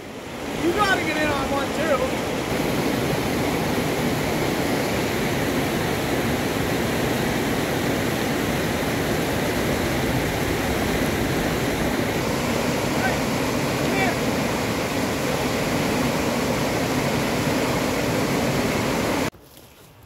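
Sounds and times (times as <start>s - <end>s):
river rapids rushing over rocks: 0.1s - 19.3s.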